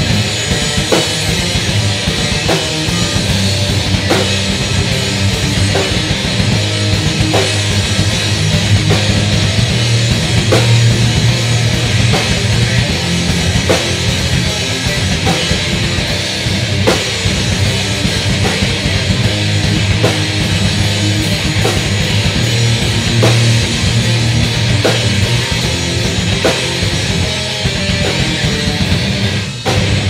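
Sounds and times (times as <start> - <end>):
distorted electric guitars: 0.0 - 30.0
fast drum kit: 0.0 - 30.0.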